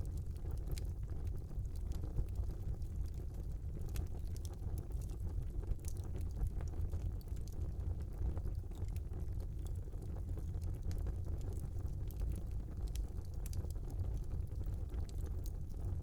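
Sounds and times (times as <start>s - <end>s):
fire crackles and pops: 0.0s - 16.0s
fire flames rumbling: 0.0s - 16.0s.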